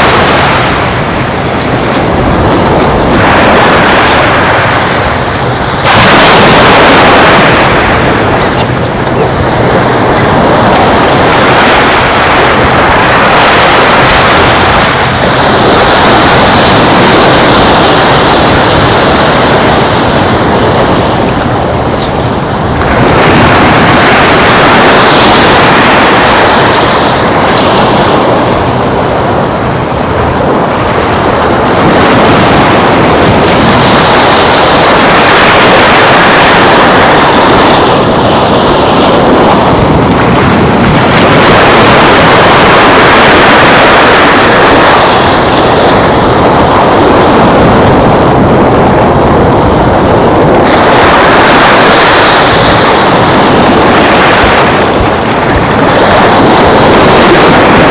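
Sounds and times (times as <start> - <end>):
surf washing onto beach: 0.0 - 57.9
wind buffeting microphone: 0.0 - 57.9.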